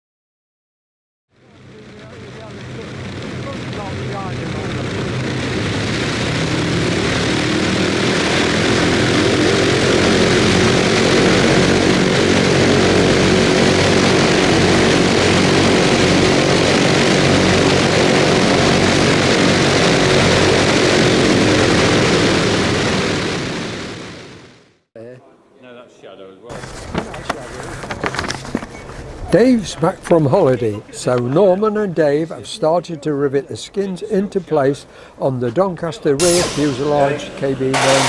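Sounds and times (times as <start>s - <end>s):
piston aircraft engines droning: 1.4s - 24.6s, 26.5s - 38.0s.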